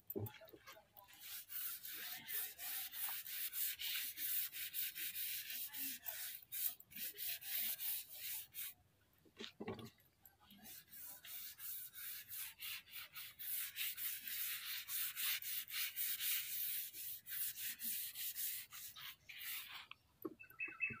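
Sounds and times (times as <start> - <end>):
paintbrush swishing on wood: 0.2 - 8.8, 10.5 - 20.0.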